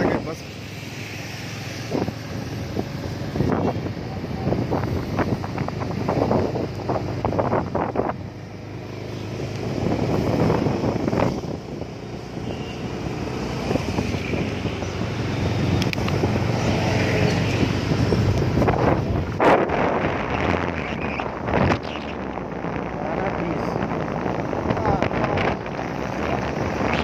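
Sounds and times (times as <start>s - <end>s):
wind buffeting microphone: 1.8s - 27.0s.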